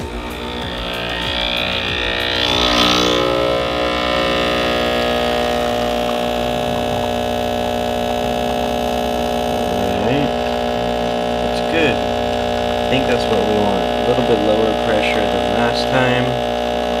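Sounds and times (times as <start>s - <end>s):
espresso pump humming: 0.0s - 17.0s.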